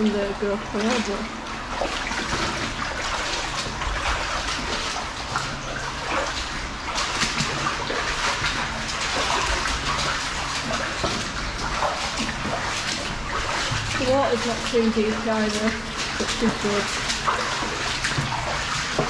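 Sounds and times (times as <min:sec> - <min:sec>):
footsteps wading through water: 0:00.0 - 0:19.0
splashes: 0:00.0 - 0:19.0
water rushing: 0:00.0 - 0:19.0.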